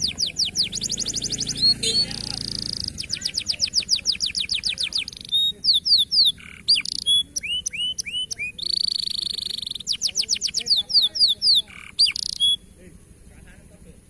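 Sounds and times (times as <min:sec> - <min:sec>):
canary singing: 0:00.0 - 0:13.2.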